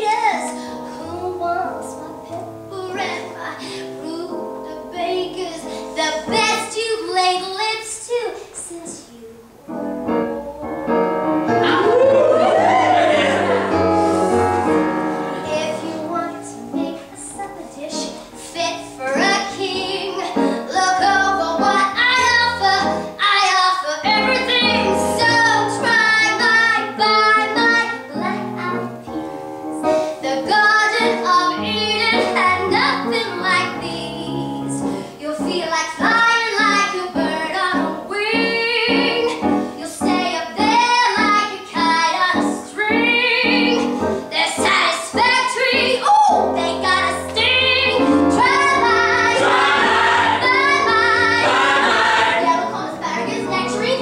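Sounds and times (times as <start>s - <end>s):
piano accompaniment: 0.0s - 7.4s, 9.4s - 54.0s.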